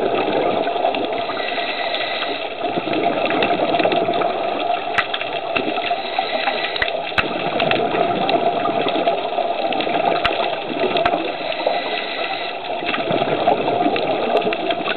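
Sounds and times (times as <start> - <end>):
muffled underwater water rush: 0.0 - 14.9.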